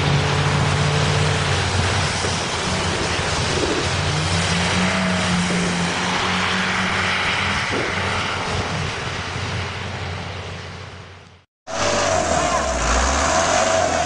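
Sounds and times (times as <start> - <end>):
tyres hissing on wet road: 0.0 - 14.0.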